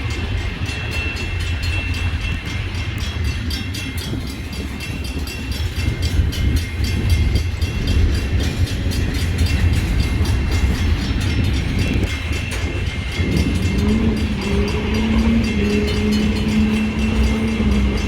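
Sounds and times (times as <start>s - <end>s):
train rumbling past: 0.0s - 18.0s
wheels clicking over rail joints: 0.0s - 18.0s.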